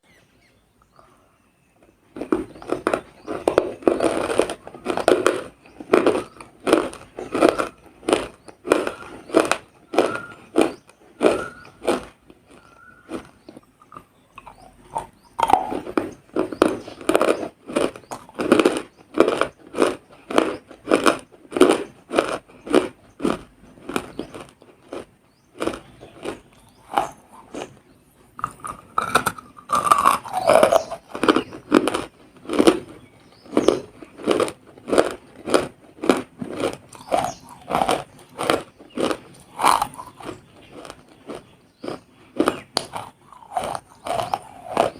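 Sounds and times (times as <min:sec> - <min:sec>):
crunchy food chewing: 0:01.8 - 0:44.9.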